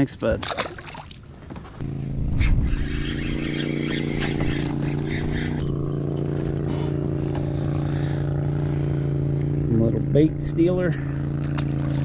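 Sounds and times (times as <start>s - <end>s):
engine running steadily: 1.4s - 12.0s.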